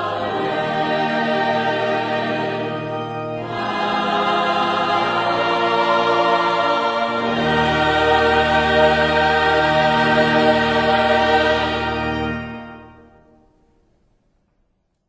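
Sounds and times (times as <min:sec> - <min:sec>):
choir singing a hymn: 0:00.0 - 0:13.4.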